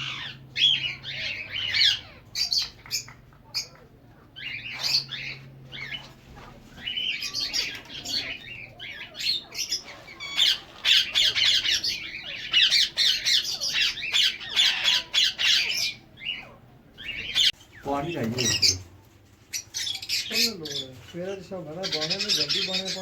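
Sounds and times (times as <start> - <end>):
parrots squawking: 0.0 - 23.0.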